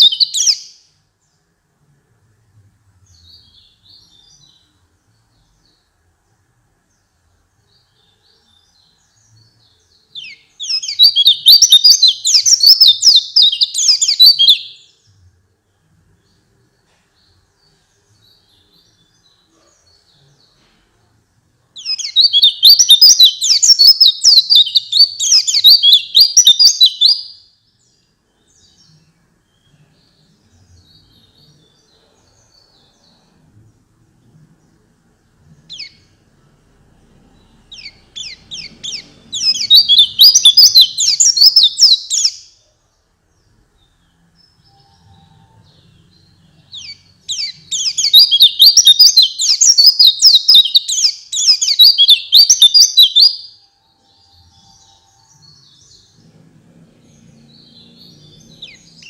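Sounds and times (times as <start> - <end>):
bird twittering song: 0.0 - 1.6, 3.0 - 20.9, 21.7 - 59.0.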